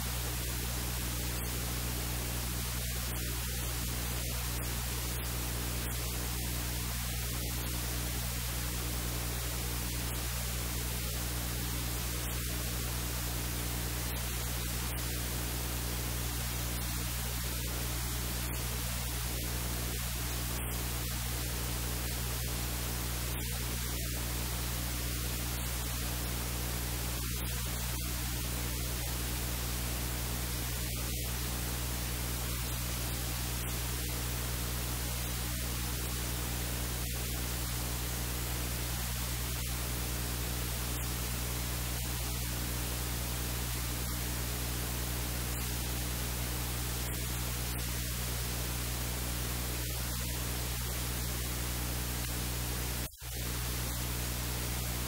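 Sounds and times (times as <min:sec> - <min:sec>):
low electrical hum: 0:00.0 - 0:55.0
static hiss: 0:00.0 - 0:55.0.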